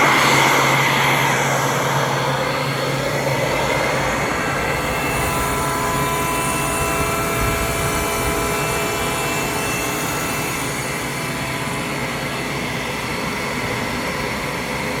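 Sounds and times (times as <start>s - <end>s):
air compressor whining: 0.0s - 15.0s.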